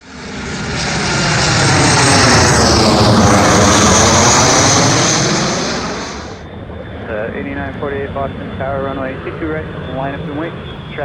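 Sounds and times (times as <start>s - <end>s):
jet engines roaring on takeoff: 0.0s - 11.0s.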